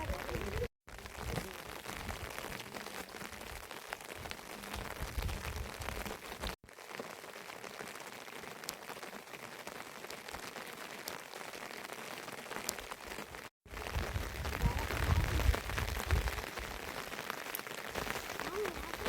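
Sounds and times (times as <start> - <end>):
rain falling: 0.0 - 19.0
raindrop ticks: 0.0 - 19.0.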